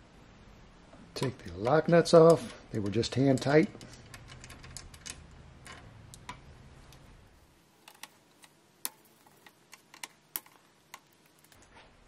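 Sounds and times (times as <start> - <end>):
small metallic clicks: 1.2 - 7.0, 7.8 - 11.6.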